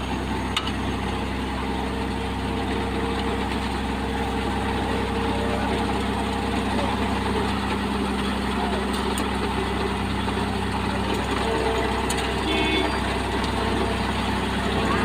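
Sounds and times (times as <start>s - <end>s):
diesel engines idling: 0.0s - 15.0s.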